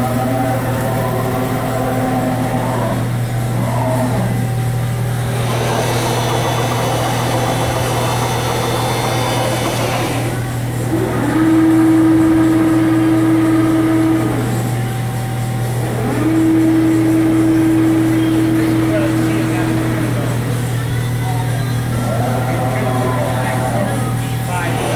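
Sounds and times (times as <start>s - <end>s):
drive motor whine: 0.0s - 24.9s
low machine hum: 0.0s - 24.9s.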